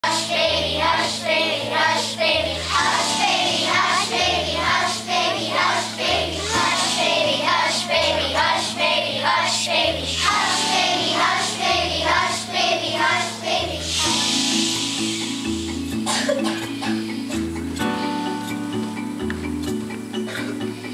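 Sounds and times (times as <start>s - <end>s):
children's choir singing: 0.0s - 17.0s
instrumental accompaniment with bass: 0.0s - 20.9s.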